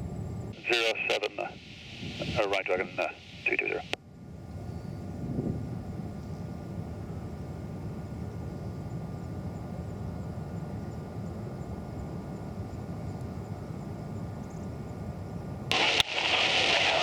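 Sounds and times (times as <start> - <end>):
distant jet engines rumbling: 0.0 - 17.0.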